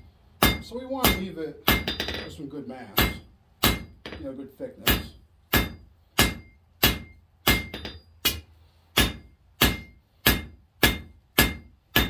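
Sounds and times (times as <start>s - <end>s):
hammer striking steel on anvil: 0.0s - 12.0s.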